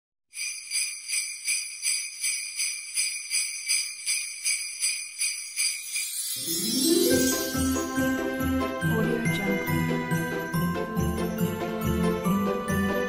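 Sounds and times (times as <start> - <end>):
jingle bells shaking: 0.4 - 13.0.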